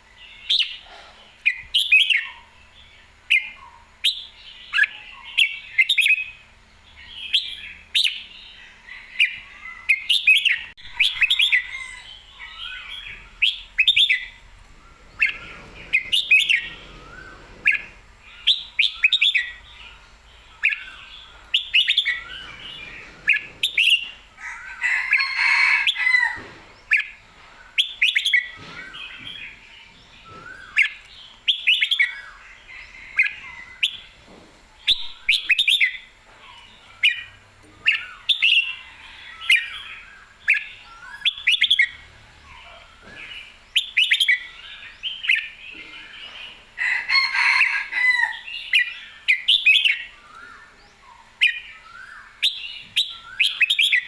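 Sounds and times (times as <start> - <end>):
bird singing warbling phrases: 0.0 - 34.1, 34.8 - 46.6, 47.2 - 54.0.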